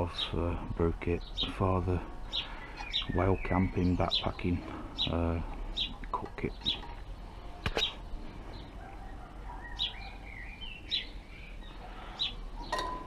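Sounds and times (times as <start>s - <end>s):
bird warbling song: 0.0s - 13.0s
birds chirping: 0.0s - 13.0s.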